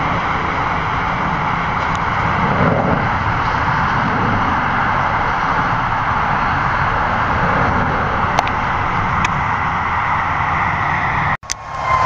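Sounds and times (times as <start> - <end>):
emergency siren wailing: 0.0 - 12.0
road traffic: 0.0 - 12.0.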